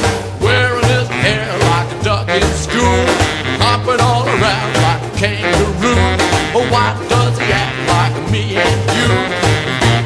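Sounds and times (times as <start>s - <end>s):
rock and roll band instrumental: 0.0s - 10.0s
swinging melodic lead line: 0.0s - 10.0s.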